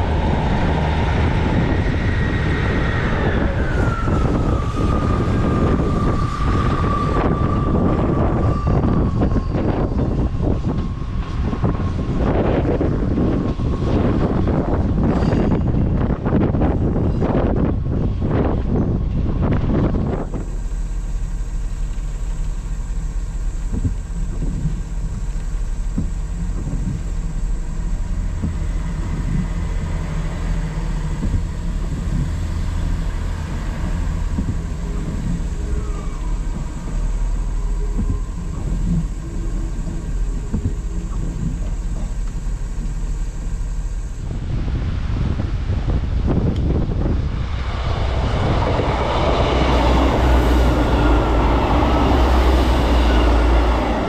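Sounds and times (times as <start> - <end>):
train passing: 0.0 - 54.0.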